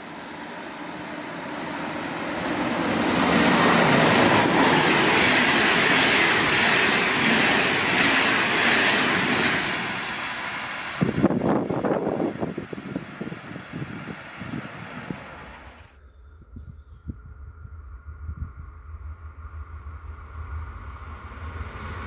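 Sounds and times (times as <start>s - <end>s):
train passing at speed: 0.0s - 16.5s, 17.1s - 22.0s
wind buffeting microphone: 2.6s - 21.9s.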